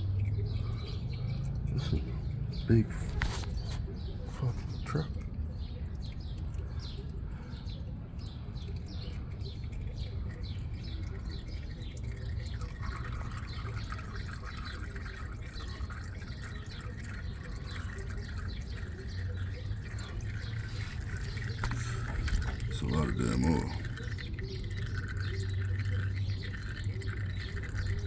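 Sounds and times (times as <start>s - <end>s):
oil pouring into a drain pan: 0.0s - 28.0s.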